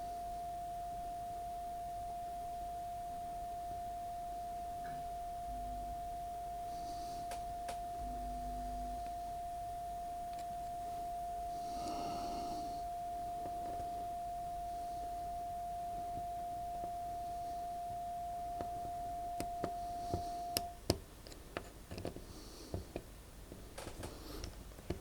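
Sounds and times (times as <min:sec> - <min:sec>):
steady test tone: 0:00.0 - 0:20.9.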